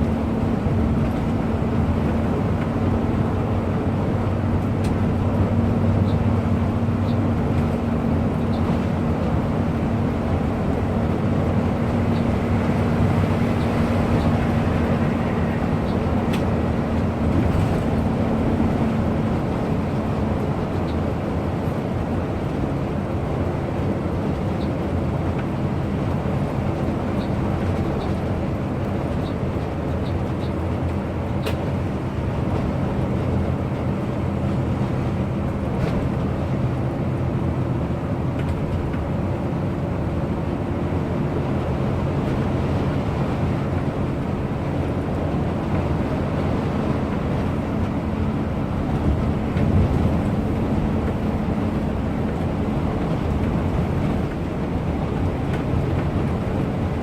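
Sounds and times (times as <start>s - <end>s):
bus engine hum: 0.0s - 57.0s
road and wind noise: 0.0s - 57.0s.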